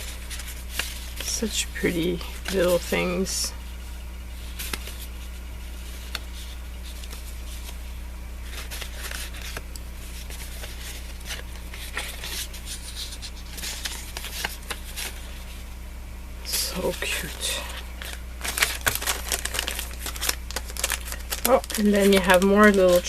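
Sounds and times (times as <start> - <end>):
paper and plastic packaging rustling: 0.0 - 15.8, 16.5 - 23.0
steady low hum: 0.0 - 23.0.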